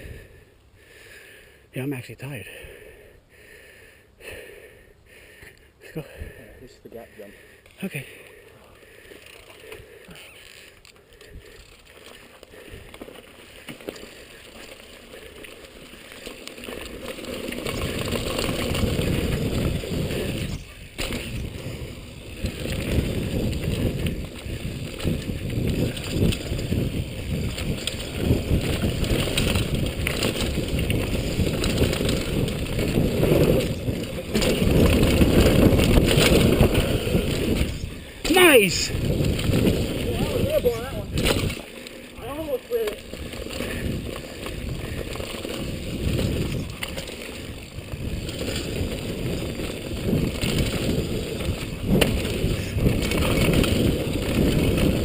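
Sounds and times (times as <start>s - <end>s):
bike tyres on dirt trail: 2.3s - 55.0s
bike rattling over rough ground: 5.9s - 55.0s.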